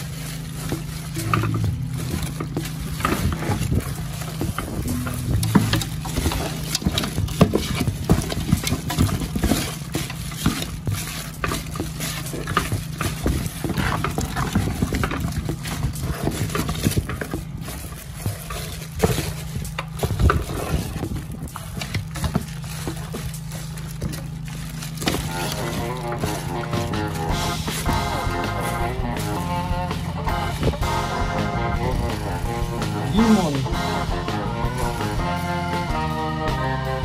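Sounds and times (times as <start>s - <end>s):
hands squelching meat in bowl: 0.0s - 37.0s
steady low hum: 0.0s - 37.0s.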